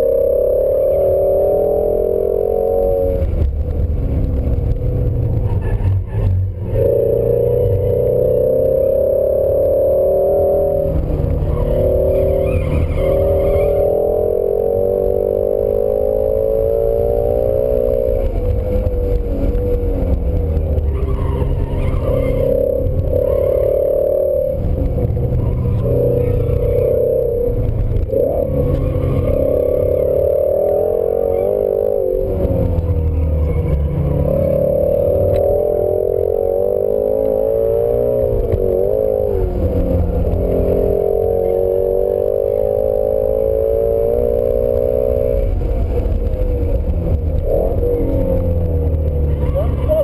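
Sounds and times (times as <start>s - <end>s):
car engine revving through gears: 0.0s - 50.0s
road and tyre noise: 0.0s - 50.0s.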